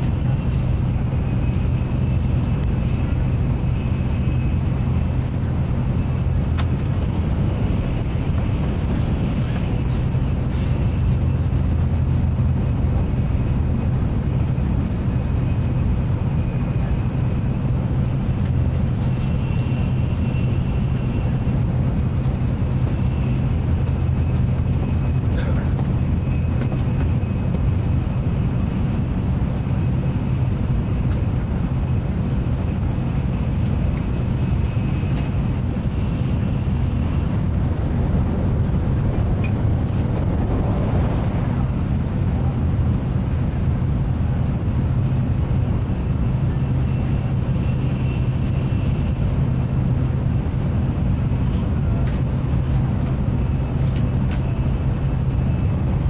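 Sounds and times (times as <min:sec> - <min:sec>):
train cabin rumble: 0:00.0 - 0:56.0.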